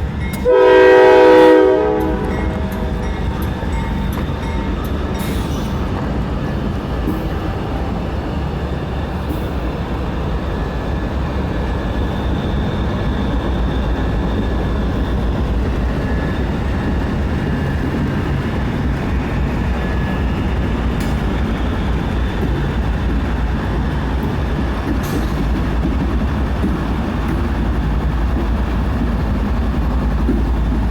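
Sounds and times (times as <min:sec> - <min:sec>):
diesel locomotives rumbling: 0:00.0 - 0:30.9
train wheels on rails: 0:00.0 - 0:30.9.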